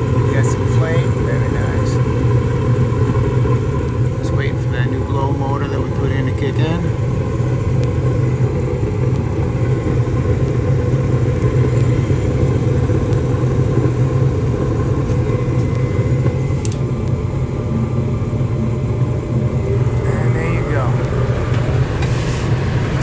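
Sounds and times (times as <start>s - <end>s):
gas furnace burner rumble: 0.0s - 23.0s.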